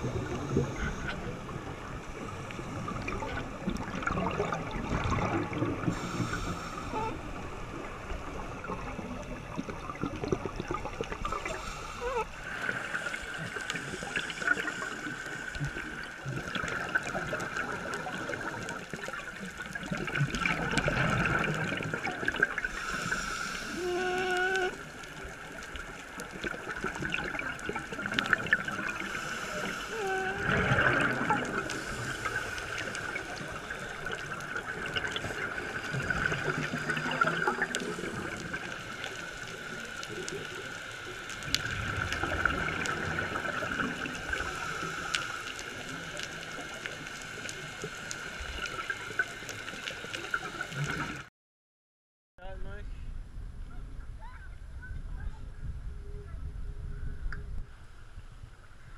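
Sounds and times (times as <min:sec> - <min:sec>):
regulator bubbles gurgling underwater: 0:00.0 - 0:51.3.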